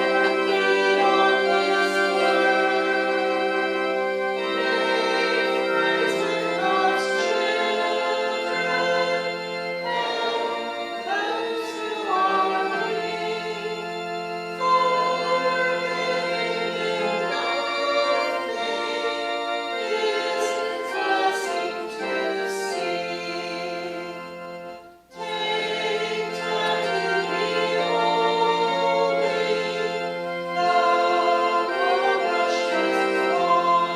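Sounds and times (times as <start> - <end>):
congregation singing a hymn: 0.0 - 33.9
organ playing: 0.0 - 33.9.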